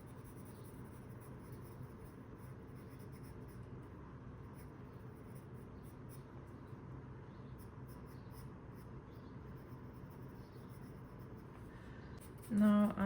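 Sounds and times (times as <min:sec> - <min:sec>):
pencil scratching on paper: 0:00.0 - 0:06.8, 0:07.5 - 0:11.6.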